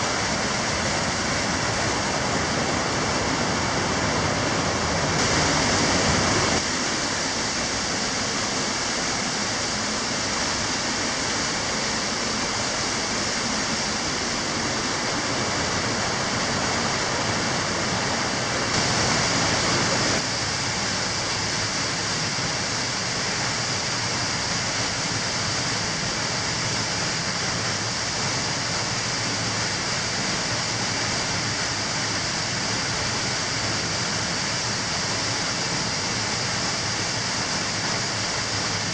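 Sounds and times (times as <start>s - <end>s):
stream cascading over rocks: 0.0s - 38.9s.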